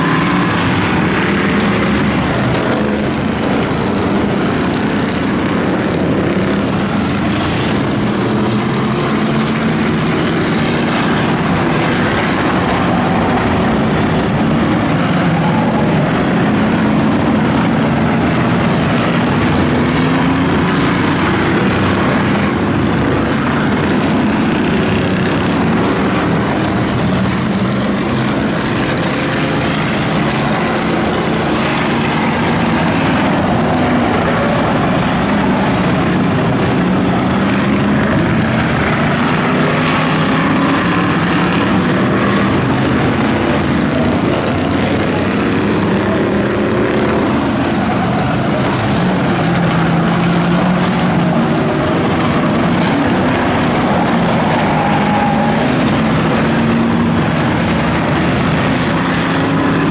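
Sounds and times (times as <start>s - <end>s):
race car engines droning: 0.0s - 59.9s.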